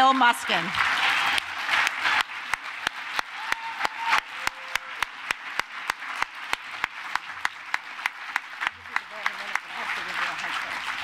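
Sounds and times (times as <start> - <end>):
audience applauding: 0.0 - 11.0
sharp individual claps: 0.0 - 11.0.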